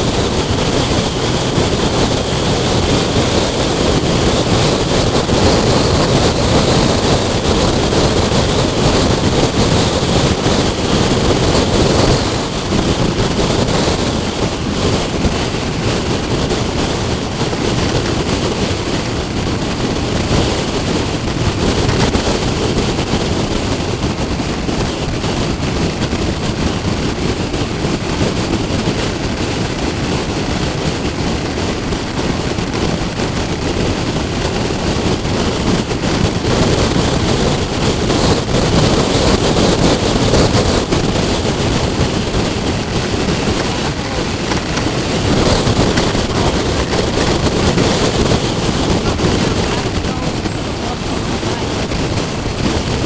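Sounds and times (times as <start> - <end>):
motorcycle road and engine noise: 0.0 - 53.0
wind buffeting microphone: 0.0 - 53.0.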